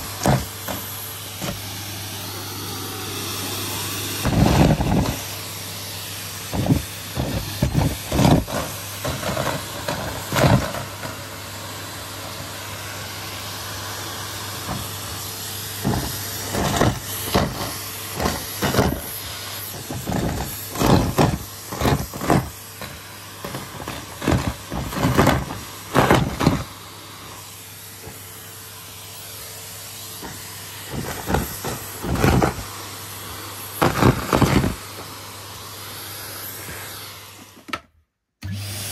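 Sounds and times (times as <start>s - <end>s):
vacuum nozzle knocking: 0.0s - 5.5s, 6.2s - 28.9s, 30.0s - 35.3s
vacuum cleaner running: 0.0s - 38.9s.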